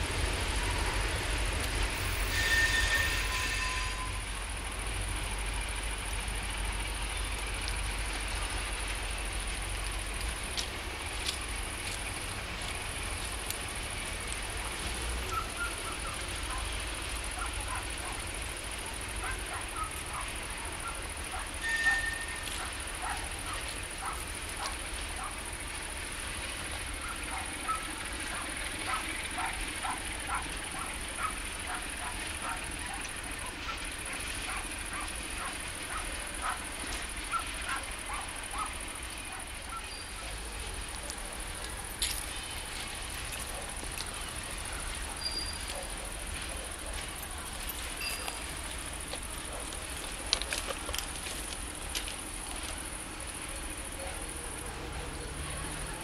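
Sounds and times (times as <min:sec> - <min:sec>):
crickets chirping: 0:00.0 - 0:56.0
freight train rumbling: 0:00.0 - 0:56.0
wheels clicking over rail joints: 0:00.0 - 0:56.0.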